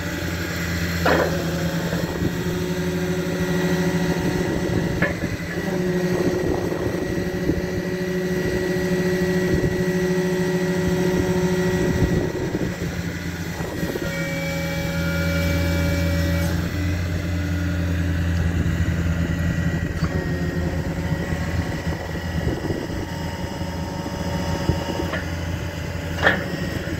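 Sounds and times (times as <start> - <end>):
hydraulics whining: 0.0 - 26.9
truck engine running: 0.0 - 26.9.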